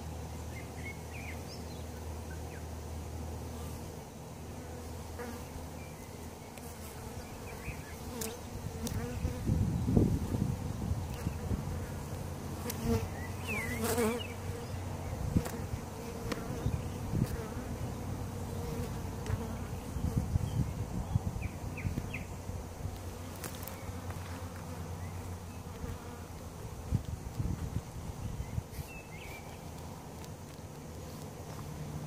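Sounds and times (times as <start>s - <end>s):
bees buzzing: 3.4s - 32.0s.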